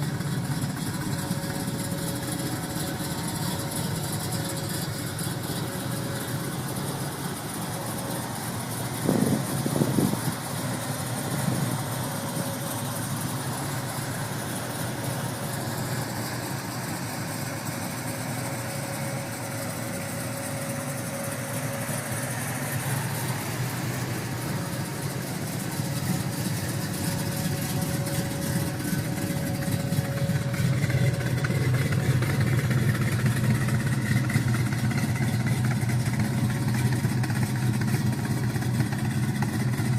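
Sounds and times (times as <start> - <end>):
car engine idling and blipping: 0.0 - 39.9.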